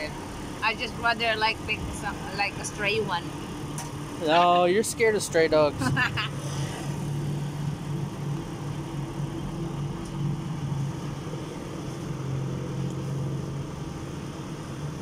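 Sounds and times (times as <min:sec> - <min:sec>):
street traffic: 0:00.0 - 0:15.0
vehicle engine idling: 0:00.0 - 0:15.0.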